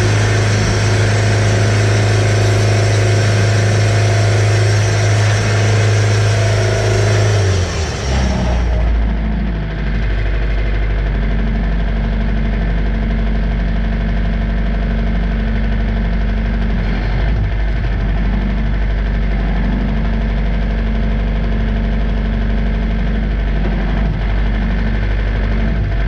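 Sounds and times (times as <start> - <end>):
sawmill engine running: 0.0 - 26.0.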